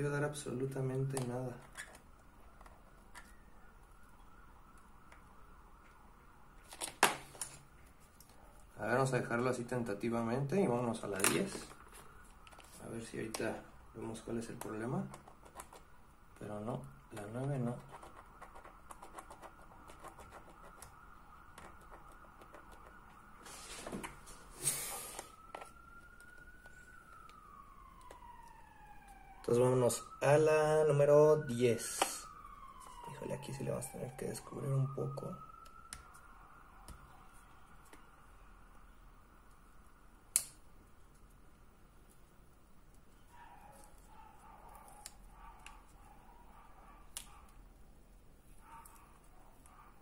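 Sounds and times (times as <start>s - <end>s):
faint siren: 0.0s - 50.0s
low background noise: 0.0s - 50.0s.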